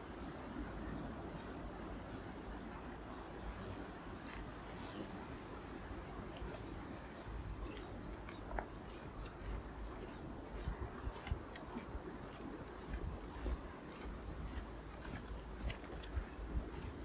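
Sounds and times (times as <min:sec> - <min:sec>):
insects chirring: 0:03.2 - 0:17.0.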